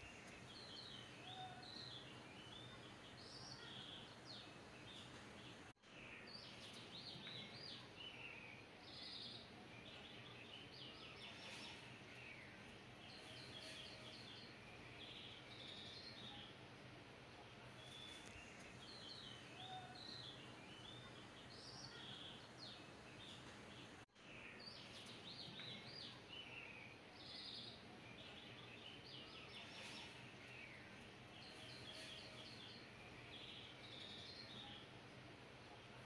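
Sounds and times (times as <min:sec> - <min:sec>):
small birds chirping: 0:00.0 - 0:36.0
steady low hiss: 0:00.0 - 0:36.0.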